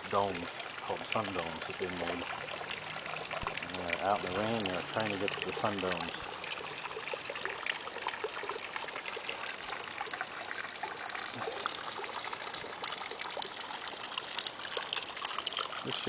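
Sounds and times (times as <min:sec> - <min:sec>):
water splashing into pool: 0:00.0 - 0:16.0.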